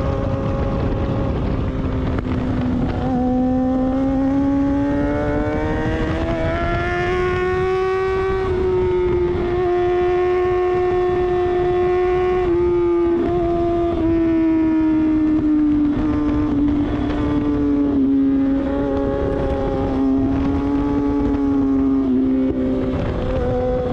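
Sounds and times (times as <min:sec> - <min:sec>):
motorcycle engine: 0:00.0 - 0:23.9
wind on microphone: 0:00.0 - 0:23.9.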